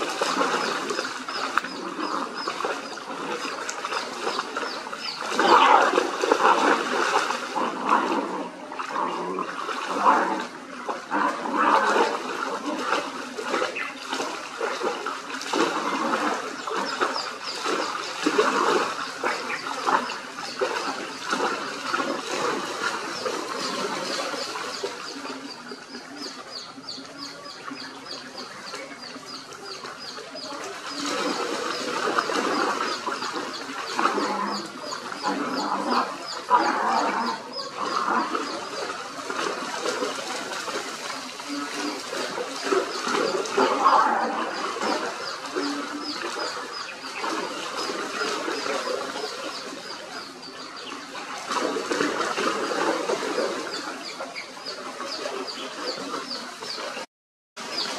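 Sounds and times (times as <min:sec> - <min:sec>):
dogs splashing through water: 0:00.0 - 0:57.9
water rushing: 0:00.0 - 0:57.9.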